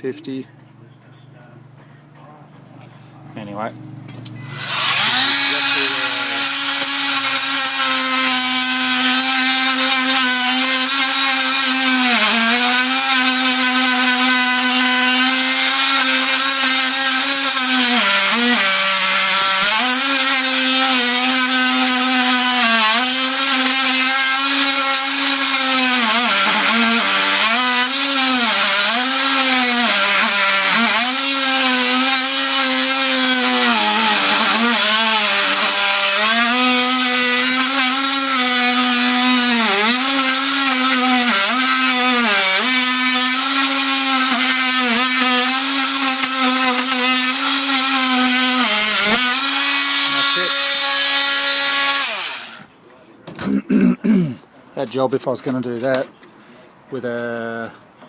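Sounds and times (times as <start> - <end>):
oscillating multi-tool buzzing: 4.3 - 52.6.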